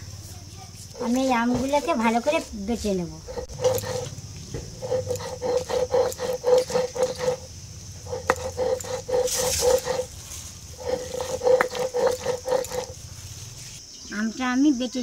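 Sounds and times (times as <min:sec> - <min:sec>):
stone-on-stone grinding scrape: 0:00.9 - 0:13.0.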